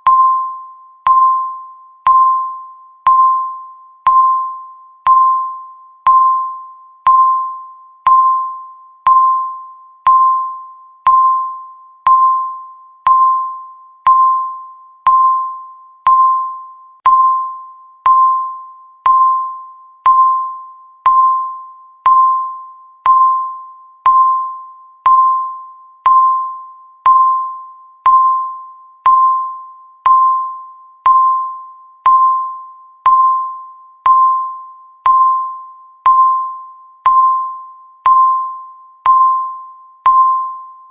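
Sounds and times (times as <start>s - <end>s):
countdown timer beeping: 0.0s - 40.8s.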